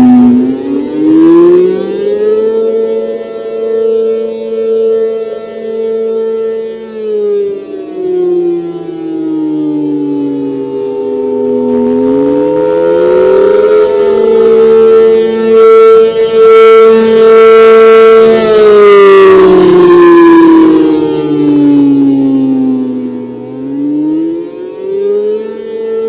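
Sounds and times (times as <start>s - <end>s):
civil defense siren wailing: 0.0s - 26.0s.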